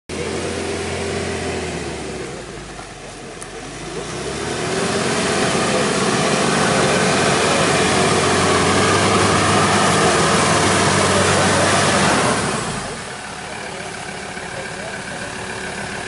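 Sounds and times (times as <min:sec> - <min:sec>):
pickup truck engine approaching: 0:00.1 - 0:16.0.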